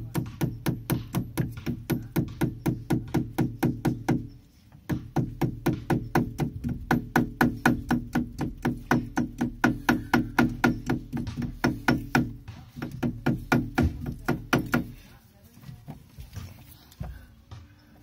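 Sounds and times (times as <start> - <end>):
rubber mallet tapping metal: 0.0 - 15.1.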